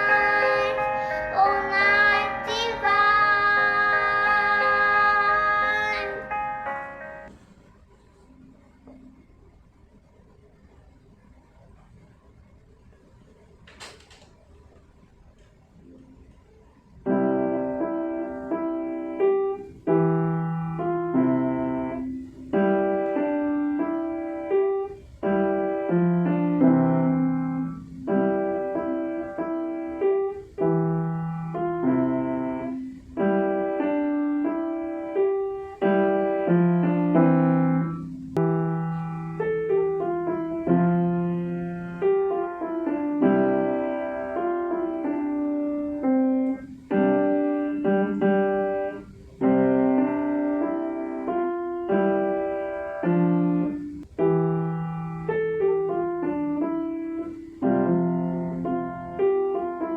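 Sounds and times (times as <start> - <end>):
piano piece: 0.0 - 7.7, 16.8 - 59.9.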